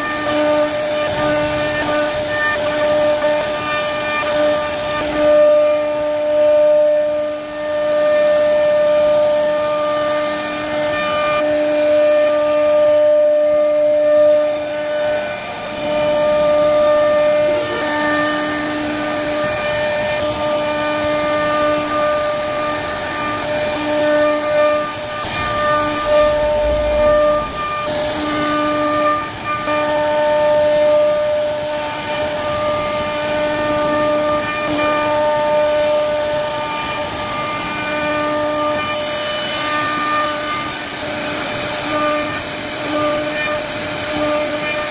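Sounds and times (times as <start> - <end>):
hiss of wood cutting: 0.0 - 44.9
router spindle whine: 0.0 - 44.9.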